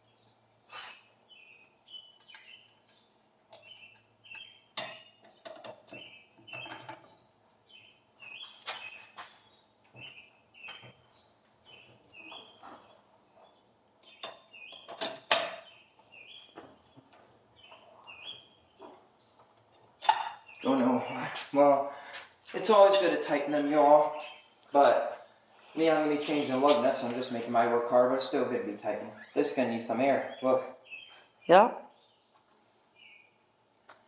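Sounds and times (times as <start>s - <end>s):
bird chirping: 0.0s - 33.5s.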